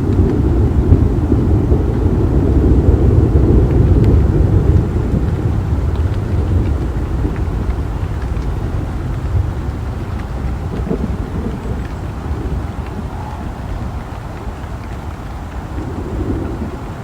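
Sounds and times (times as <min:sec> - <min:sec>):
deep thunder rumble: 0:00.0 - 0:17.0
faint raindrop ticks: 0:00.0 - 0:17.0.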